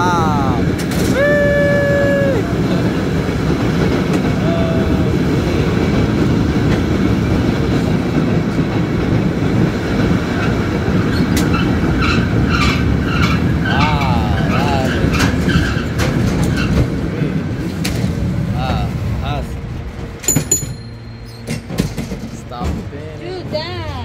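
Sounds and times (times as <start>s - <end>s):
cable car wheels rumbling on rails: 0.0s - 24.0s.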